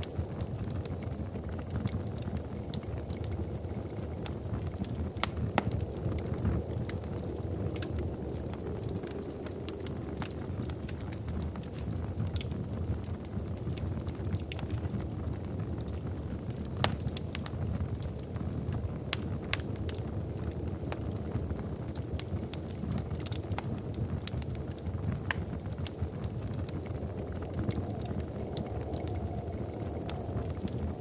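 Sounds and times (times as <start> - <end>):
low rumble of flames: 0.0 - 31.0
wood fire crackling: 0.0 - 31.0.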